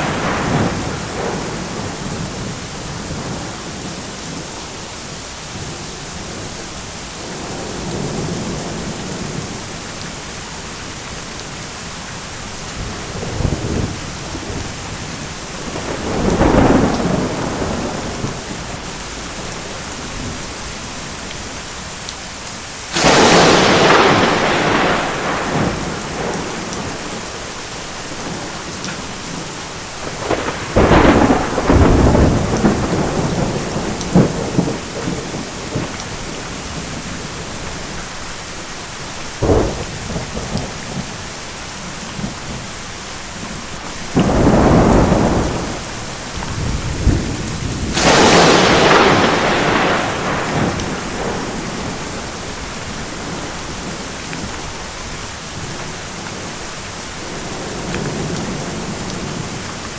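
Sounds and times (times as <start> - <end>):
thunder claps and rumbles: 0.0 - 4.4, 7.2 - 10.1, 12.3 - 21.6, 22.8 - 38.4, 39.3 - 59.9
heavy rain: 0.0 - 59.9.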